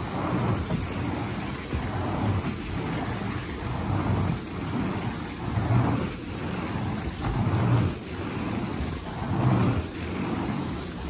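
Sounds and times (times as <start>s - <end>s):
carpet cleaning machine running: 0.0s - 11.0s.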